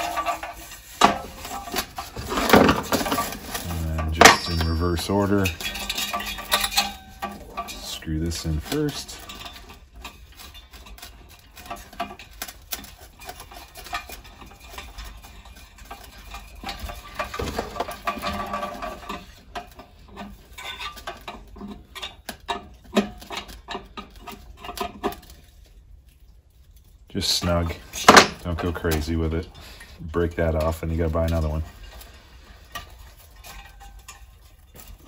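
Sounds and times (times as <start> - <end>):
metal parts clicking and scraping: 0.0 - 35.0.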